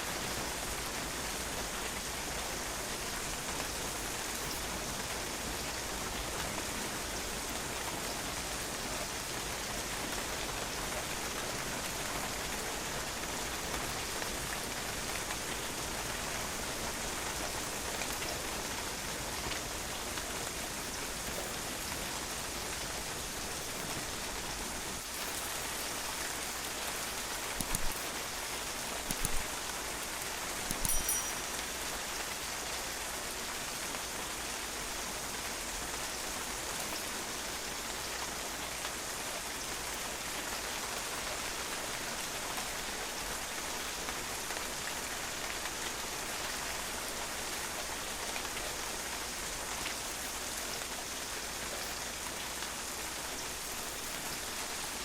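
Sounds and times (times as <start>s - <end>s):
rain splashing on patio: 0.0s - 55.0s.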